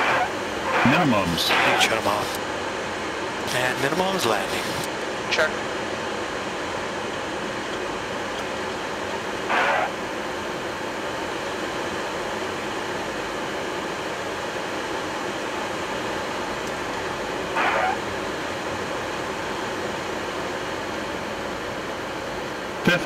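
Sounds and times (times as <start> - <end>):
airflow and air-conditioning noise: 0.0 - 23.0.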